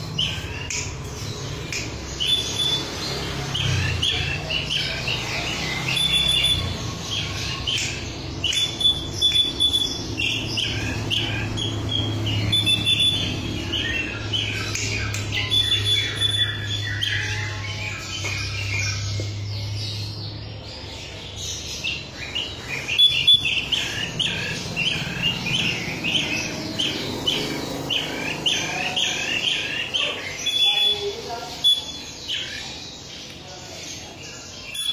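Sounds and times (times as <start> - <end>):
bird chirping rapidly: 0.0 - 34.9
clear whistled bird notes: 1.6 - 19.7, 21.9 - 32.8, 34.6 - 34.9.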